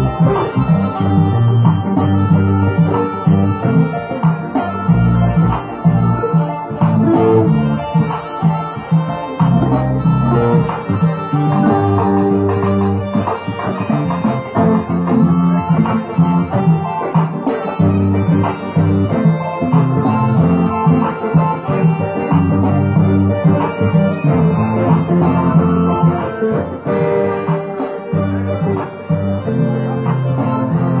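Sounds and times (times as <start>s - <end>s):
electric guitar: 0.0s - 31.0s
electric keyboard: 0.0s - 31.0s.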